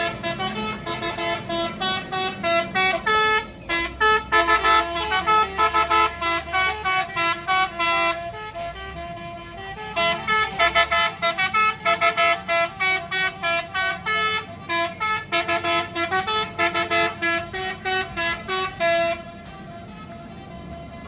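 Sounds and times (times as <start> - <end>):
musical vehicle horn tune: 0.0 - 21.0
vehicle and road noise: 0.0 - 21.0.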